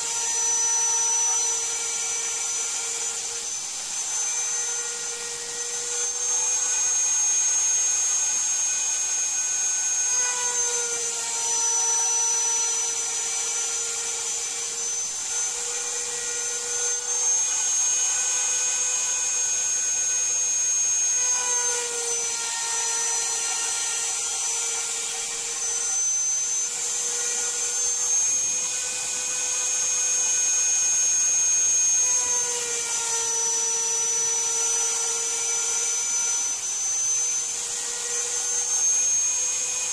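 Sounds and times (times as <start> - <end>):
router spindle milling wood: 0.0 - 39.9.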